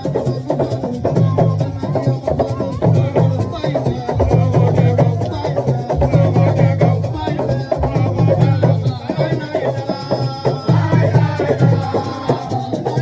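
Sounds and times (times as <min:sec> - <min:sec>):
fast percussion drumming: 0:00.0 - 0:13.0
rattling shaker strokes: 0:00.0 - 0:13.0.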